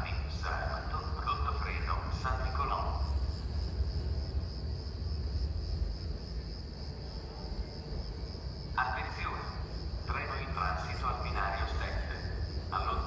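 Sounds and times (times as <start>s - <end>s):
crickets chirping: 0.0s - 13.0s
low constant rumble: 0.0s - 13.0s.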